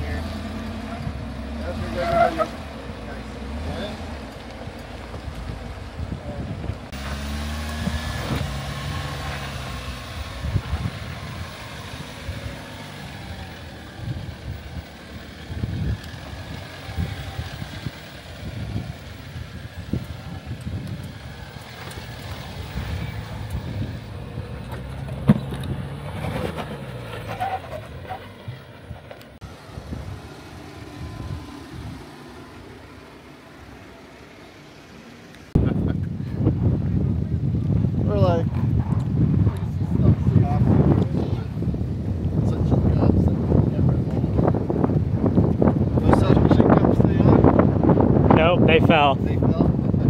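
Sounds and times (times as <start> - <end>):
engine running at low revs: 0.0 - 50.0.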